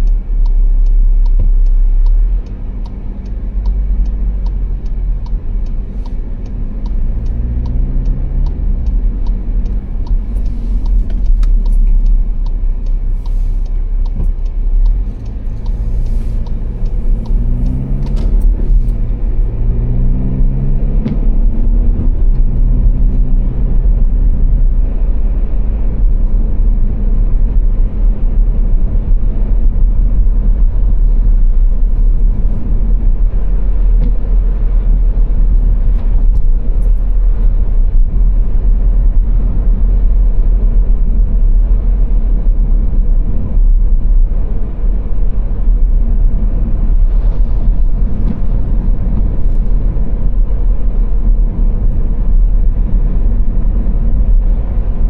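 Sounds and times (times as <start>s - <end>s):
car engine and road rumble: 0.0s - 55.0s
turn indicator ticking: 0.0s - 55.0s.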